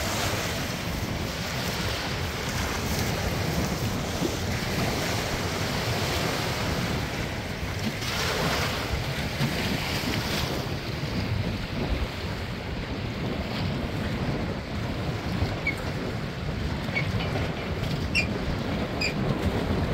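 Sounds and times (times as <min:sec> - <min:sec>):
small waves splashing: 0:00.0 - 0:19.9
wind buffeting microphone: 0:00.0 - 0:19.9.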